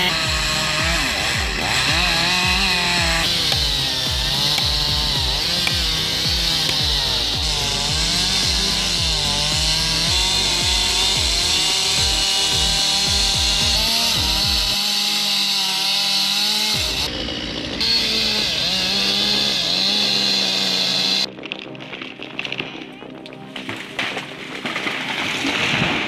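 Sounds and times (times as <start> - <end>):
chainsaw cutting wood: 0.0 - 21.3.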